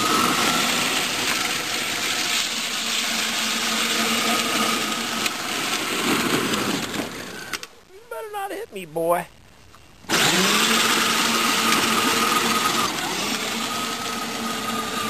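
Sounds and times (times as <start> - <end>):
electric motor whine: 0.0 - 7.7, 10.0 - 15.0
plastic wheels rolling on pavement: 0.0 - 7.7, 10.0 - 15.0.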